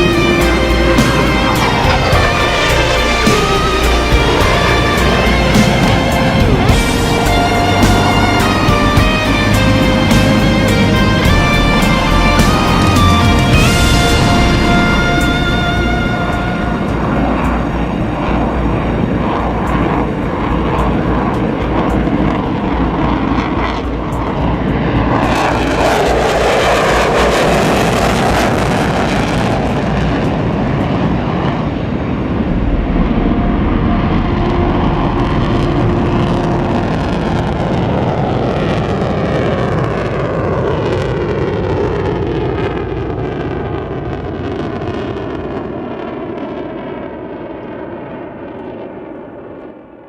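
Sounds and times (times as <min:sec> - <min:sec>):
aircraft roar flying past: 0:00.0 - 0:50.0.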